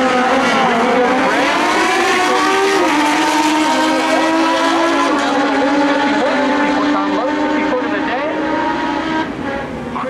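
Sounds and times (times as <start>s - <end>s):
motorcycle engines at full throttle: 0.0s - 10.0s.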